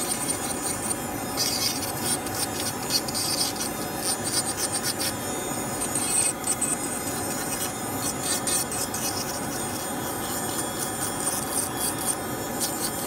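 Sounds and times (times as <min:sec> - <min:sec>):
dental handpiece running: 0:00.0 - 0:13.0
scratchy grinding: 0:00.0 - 0:13.0.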